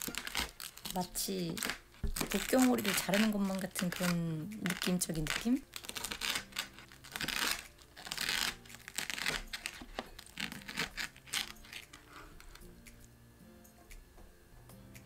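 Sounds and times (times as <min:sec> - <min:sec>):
knife sawing through crackly pork: 0:00.0 - 0:12.7.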